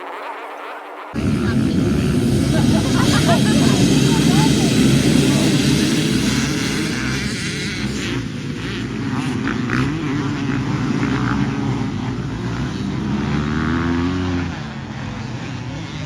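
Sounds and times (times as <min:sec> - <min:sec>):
dirt bike engine revving: 0:01.2 - 0:16.0.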